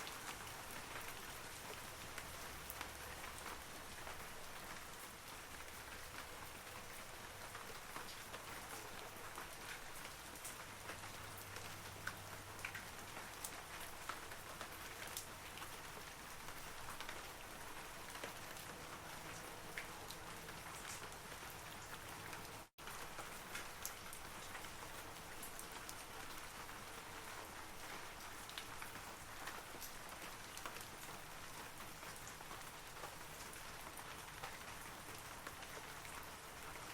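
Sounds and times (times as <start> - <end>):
rain falling on trees: 0.0 - 36.9.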